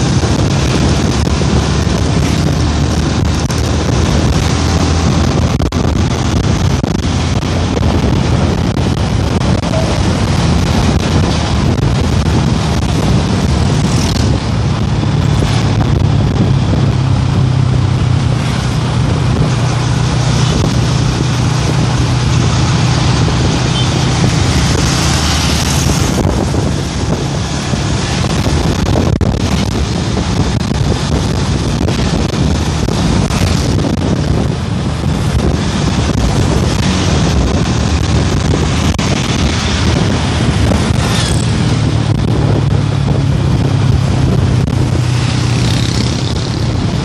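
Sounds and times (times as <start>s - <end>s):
motorcycle engine cruising: 0.0s - 47.0s
wind rushing over microphone: 0.0s - 47.0s.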